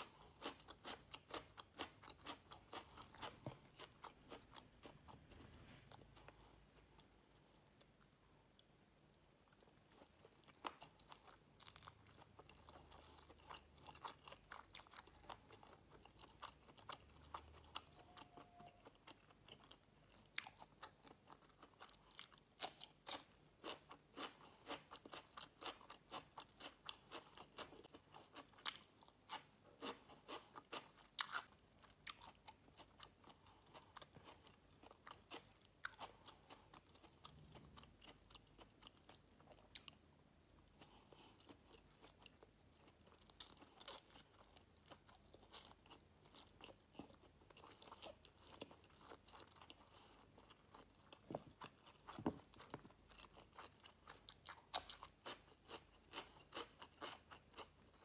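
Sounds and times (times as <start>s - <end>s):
mouth chewing crispy food: 0.0s - 40.0s, 40.6s - 58.0s.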